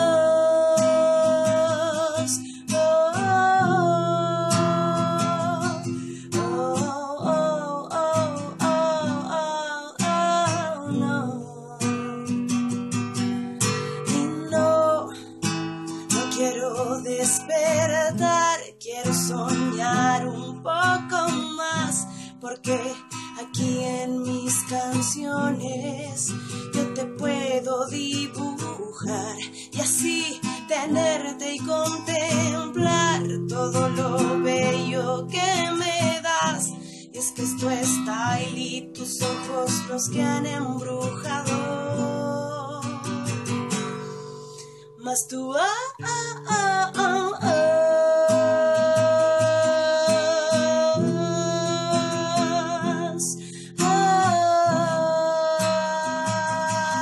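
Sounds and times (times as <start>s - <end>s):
acoustic guitar chords: 0.0s - 57.0s.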